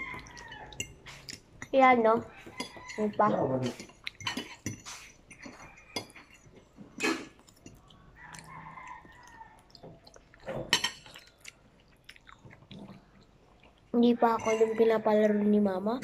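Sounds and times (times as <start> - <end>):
child chewing and slurping: 0.0 - 15.3.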